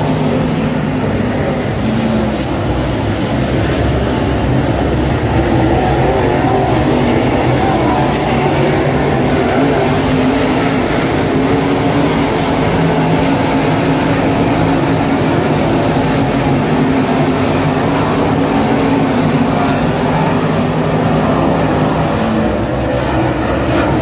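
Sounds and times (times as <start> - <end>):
race car engines roaring: 0.0 - 24.0.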